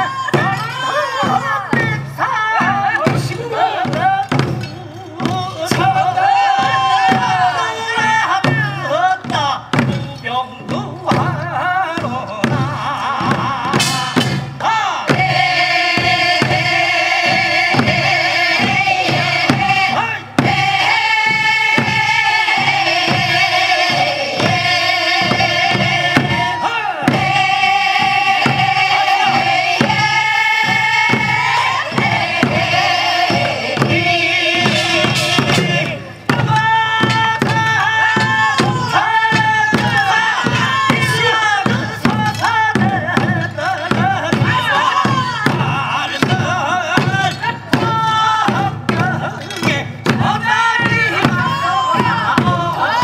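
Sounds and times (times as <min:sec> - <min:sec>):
barrel drum beating: 0:00.0 - 0:53.0
voices singing a work song: 0:00.0 - 0:53.0.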